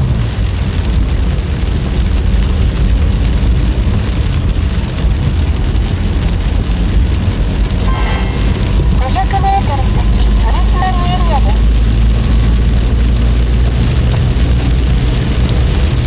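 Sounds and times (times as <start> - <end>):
heavy rain on a car: 0.0 - 16.0
low rumble of car and road: 0.0 - 16.0.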